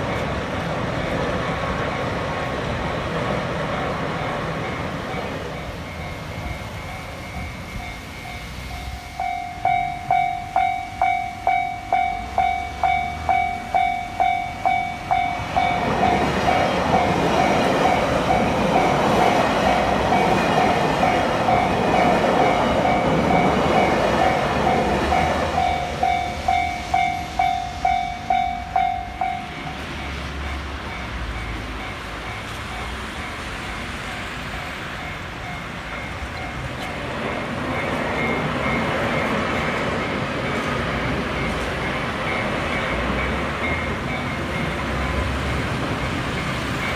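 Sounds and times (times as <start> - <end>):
road traffic noise: 0.0 - 46.9
train rumbling past: 0.0 - 46.9
level-crossing electronic bell: 3.7 - 46.9.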